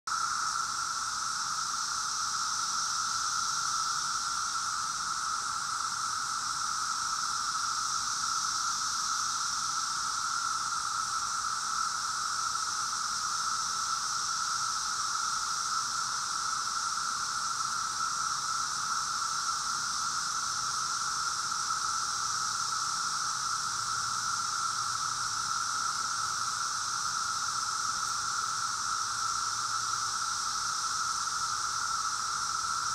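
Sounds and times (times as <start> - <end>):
cicadas droning: 0.1 - 32.9
faint high hiss: 0.1 - 32.9.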